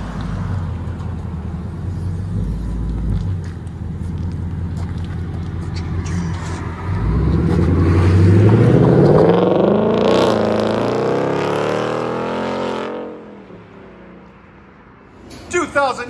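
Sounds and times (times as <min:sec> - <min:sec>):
car engine accelerating: 0:00.0 - 0:13.3.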